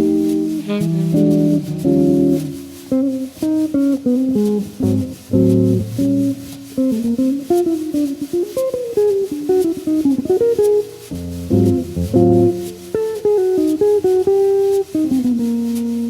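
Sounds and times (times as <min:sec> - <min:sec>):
jazz guitar playing: 0:00.0 - 0:16.0.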